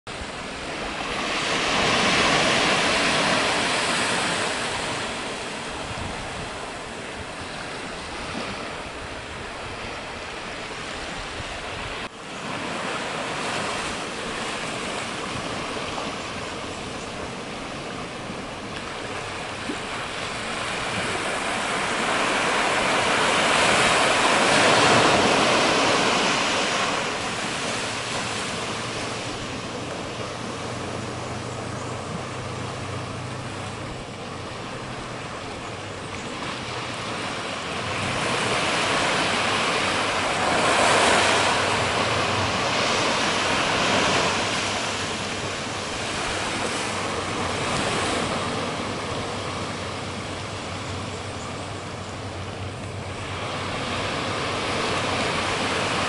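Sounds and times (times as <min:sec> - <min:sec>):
ocean surf on a beach: 0:00.1 - 0:56.0.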